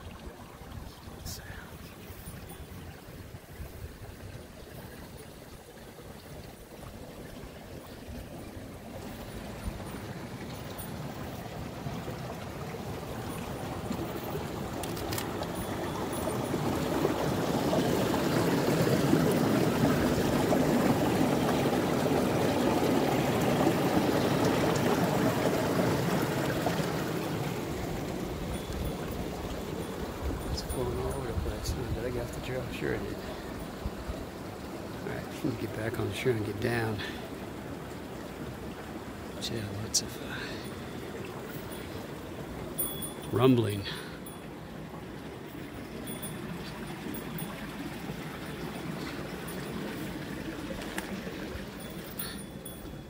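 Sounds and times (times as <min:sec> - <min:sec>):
stream rushing water: 0:00.0 - 0:53.0.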